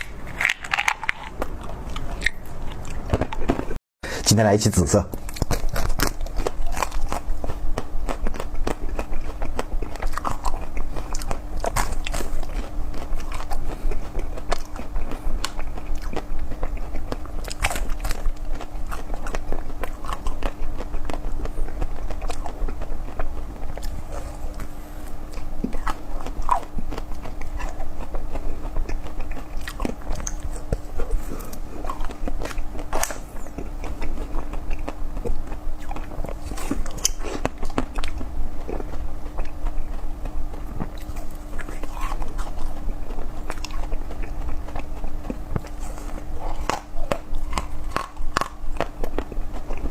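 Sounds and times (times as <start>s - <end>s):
crackly biting and chewing: 0.0s - 3.8s, 5.1s - 49.9s
faint steady hum: 0.0s - 49.9s.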